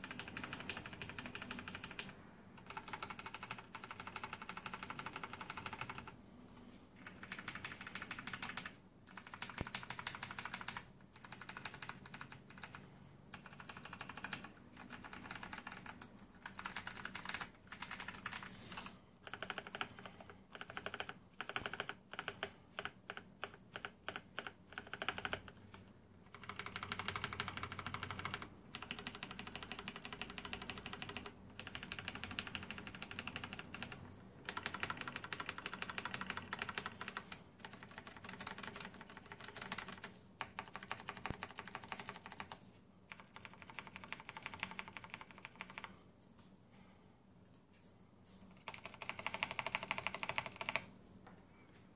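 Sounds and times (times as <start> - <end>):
mechanical keyboard typing: 0.0 - 6.2, 7.0 - 18.5, 19.2 - 46.0, 48.6 - 50.9.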